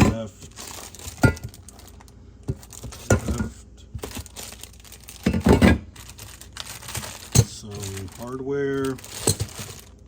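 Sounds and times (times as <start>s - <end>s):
plastic packaging crinkling and tearing: 0.1s - 3.1s, 4.0s - 10.0s.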